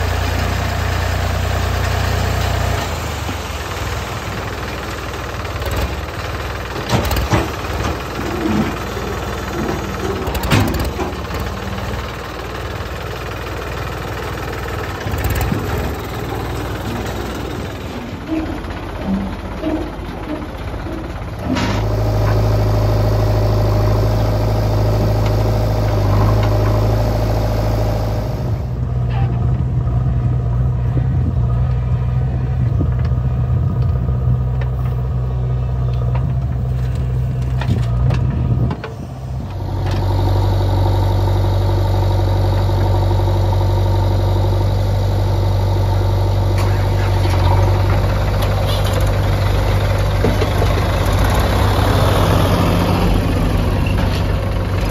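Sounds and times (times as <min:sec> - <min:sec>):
diesel engines idling: 0:00.0 - 0:54.9.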